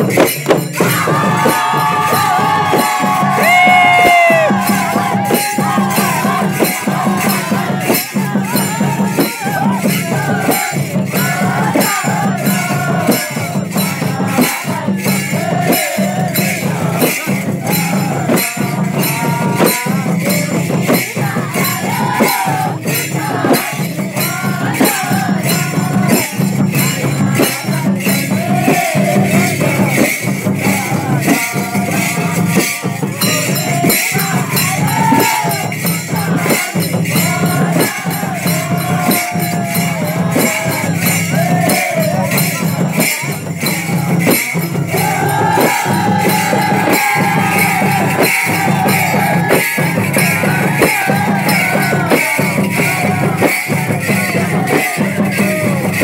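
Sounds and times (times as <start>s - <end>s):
sharp percussion beat: 0.0s - 56.0s
voices singing: 0.0s - 56.0s.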